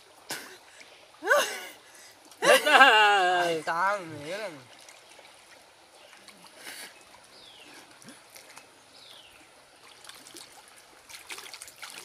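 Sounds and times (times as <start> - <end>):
water trickling and lapping: 0.0 - 12.0.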